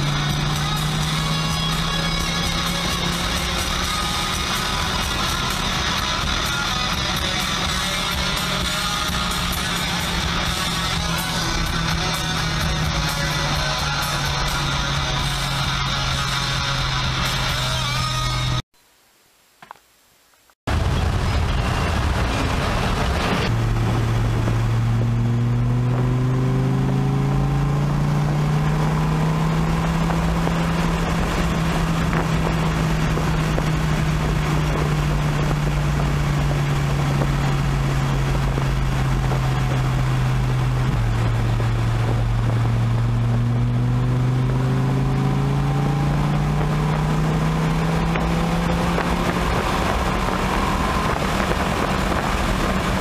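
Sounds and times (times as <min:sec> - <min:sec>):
car engine pulling hard: 0:00.0 - 0:18.6, 0:20.7 - 0:53.0.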